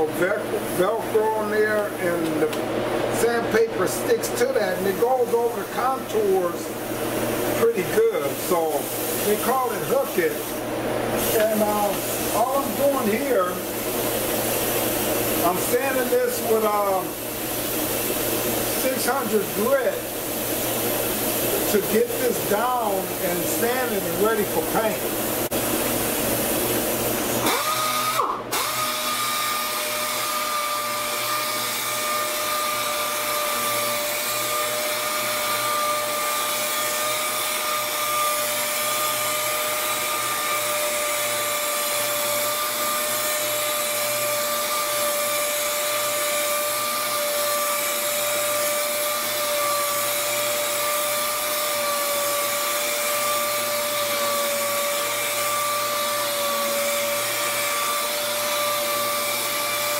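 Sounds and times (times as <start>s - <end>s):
air sander whining: 0.0s - 59.9s.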